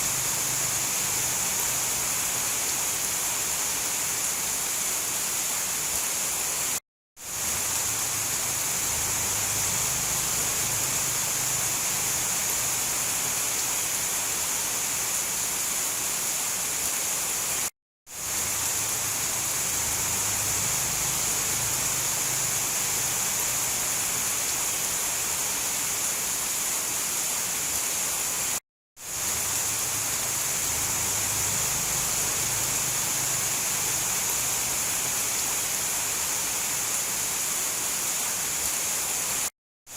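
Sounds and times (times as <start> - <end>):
heavy rain hiss: 0.0 - 39.5.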